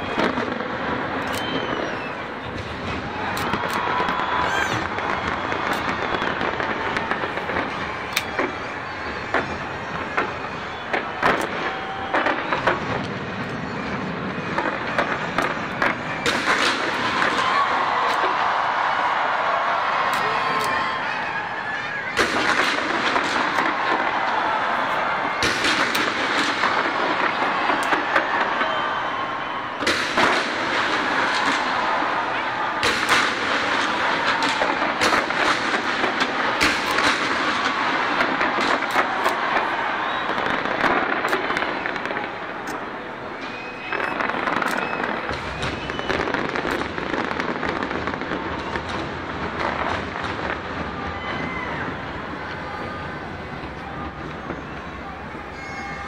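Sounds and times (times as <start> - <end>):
fireworks exploding: 0.0 - 56.0.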